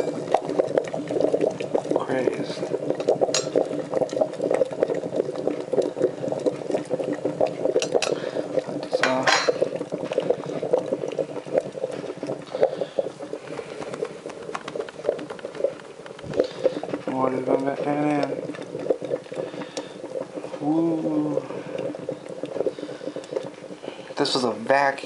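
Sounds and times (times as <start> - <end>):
coffee maker bubbling and gurgling: 0.0 - 25.0.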